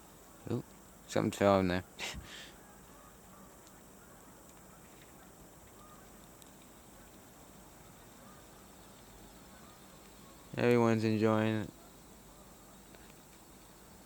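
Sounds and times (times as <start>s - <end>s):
steady hiss: 0.0s - 14.0s
geese honking: 2.3s - 14.0s.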